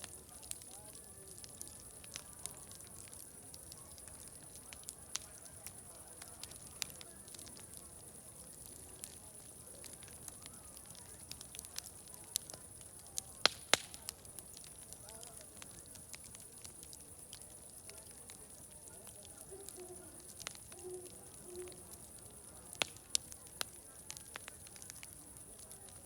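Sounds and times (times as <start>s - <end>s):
distant crowd chatter: 0.0s - 26.0s
wood fire crackling and popping: 0.0s - 26.0s.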